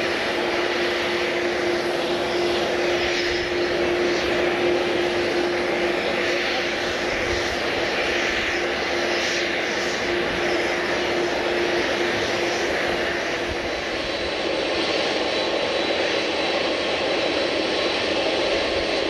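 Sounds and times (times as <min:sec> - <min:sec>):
aircraft engines running: 0:00.0 - 0:19.0.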